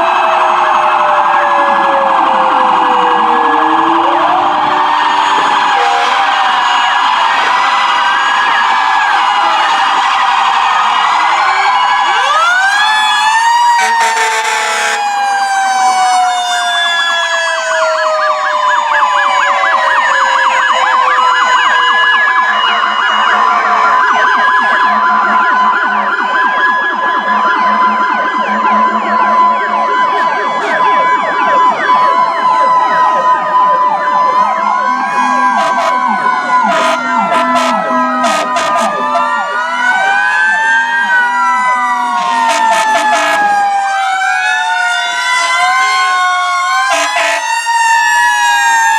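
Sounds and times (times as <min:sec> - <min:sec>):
emergency vehicle sirens wailing: 0:00.0 - 0:48.9.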